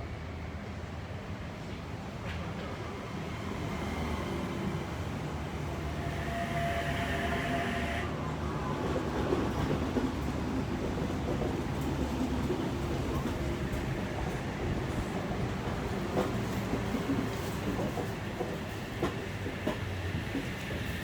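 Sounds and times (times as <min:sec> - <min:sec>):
electric train rumbling: 0:00.1 - 0:21.0.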